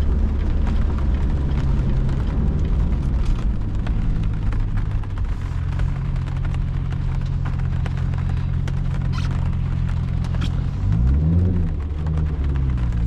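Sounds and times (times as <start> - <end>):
car engine cruising drone: 0.0 - 13.0.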